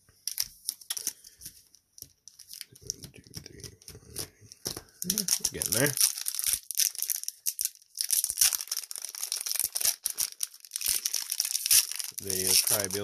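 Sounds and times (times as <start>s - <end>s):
wrapper crinkling and tearing: 0.2s - 13.0s.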